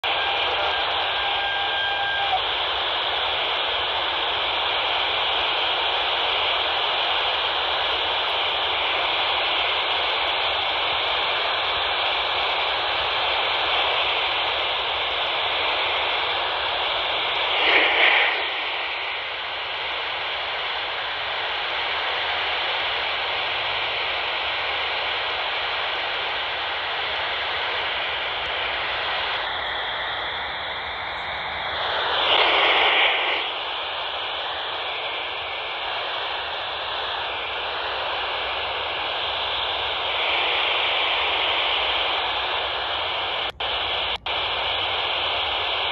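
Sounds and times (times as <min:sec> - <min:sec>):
radio static noise: 0:00.0 - 0:45.9.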